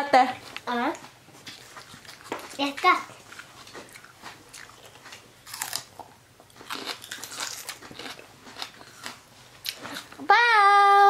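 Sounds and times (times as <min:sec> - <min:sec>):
crunchy chewing of bell pepper: 0:00.6 - 0:10.2.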